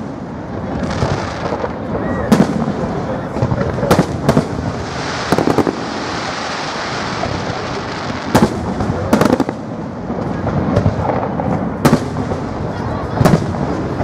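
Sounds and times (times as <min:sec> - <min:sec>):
hissing crackle: 0:00.0 - 0:12.7
firework bangs: 0:00.0 - 0:14.0.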